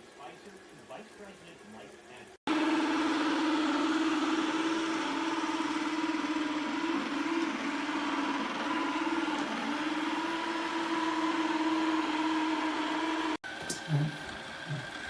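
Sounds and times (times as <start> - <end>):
robot vacuum cleaner running: 2.5 - 15.0.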